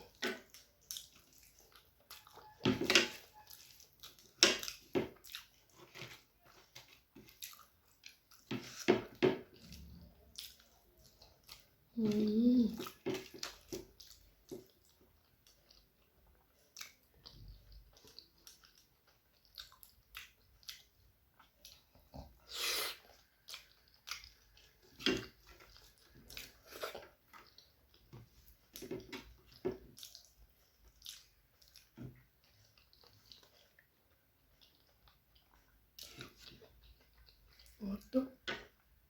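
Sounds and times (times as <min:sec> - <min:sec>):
person chewing: 0:00.0 - 0:39.0.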